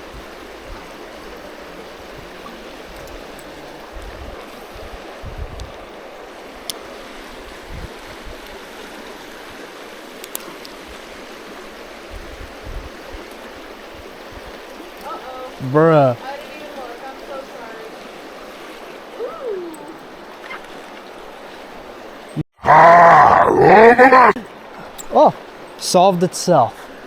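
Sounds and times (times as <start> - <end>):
creek water running: 0.0 - 27.0.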